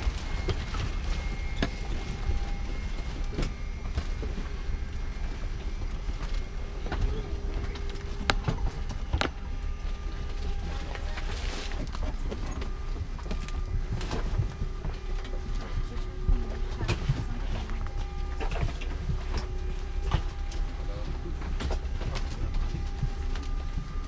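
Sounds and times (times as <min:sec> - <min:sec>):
low cabin rumble: 0:00.0 - 0:24.0.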